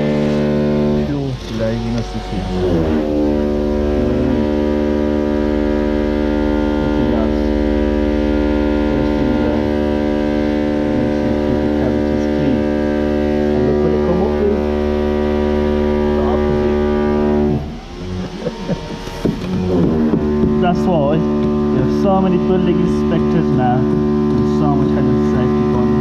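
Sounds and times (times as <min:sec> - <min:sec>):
loud steady multi-tone hum: 0:00.0 - 0:26.0.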